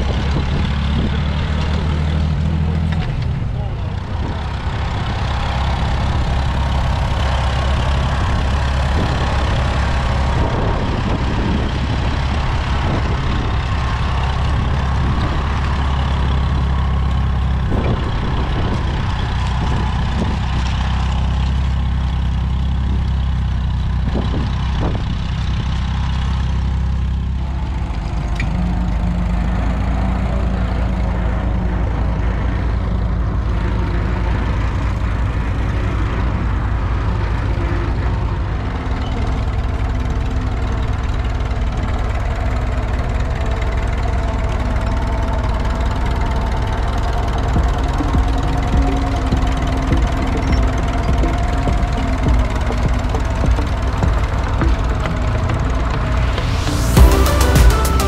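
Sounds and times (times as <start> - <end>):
tractor engine under plough load: 0.0 - 58.0.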